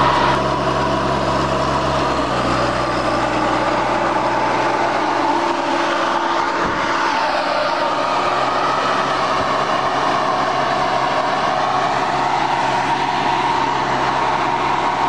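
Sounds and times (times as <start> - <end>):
sprayer fan rushing air: 0.0 - 15.0
steady whine: 0.0 - 15.0
tractor engine running: 0.0 - 15.0.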